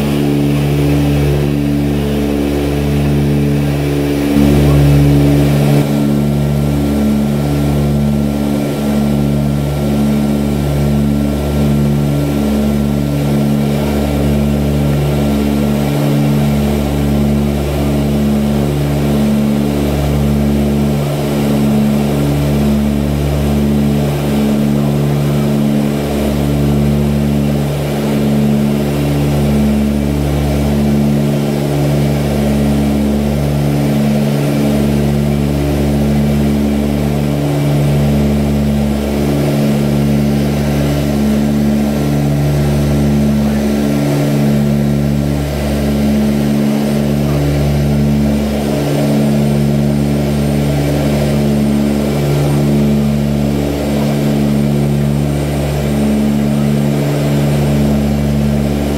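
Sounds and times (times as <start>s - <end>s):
turboprop engine drone: 0.0s - 58.9s.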